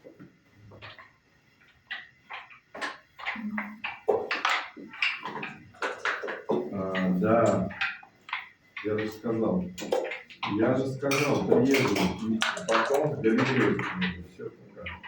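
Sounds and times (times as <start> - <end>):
checkers and dice clacking on board: 0.7 - 15.0.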